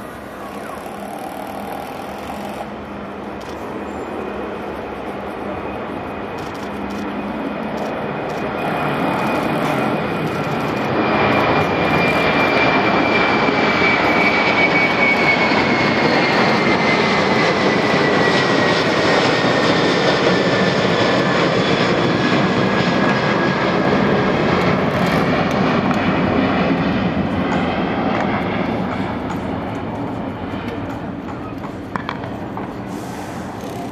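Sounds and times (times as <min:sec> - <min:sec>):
high engine whine: 0:00.0 - 0:33.9
jet engines at takeoff: 0:00.0 - 0:33.9.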